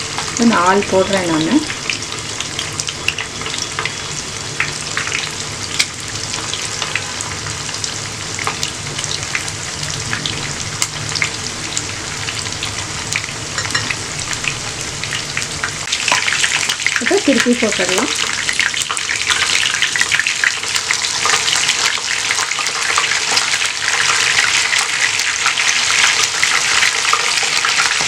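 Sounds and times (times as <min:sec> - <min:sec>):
chicken deep-frying in oil: 0:00.0 - 0:28.0
oil popping and crackling: 0:00.0 - 0:28.0.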